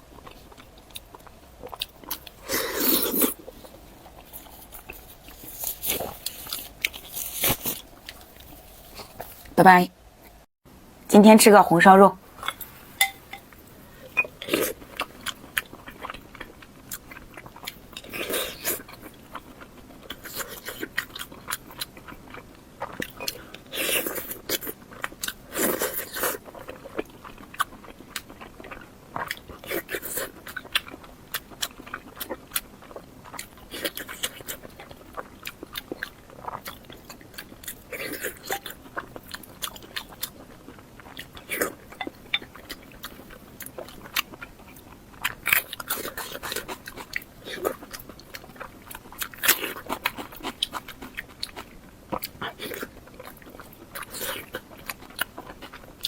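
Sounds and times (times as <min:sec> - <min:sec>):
wet chewing with mouth clicks: 0:00.0 - 0:09.6, 0:12.4 - 0:56.0.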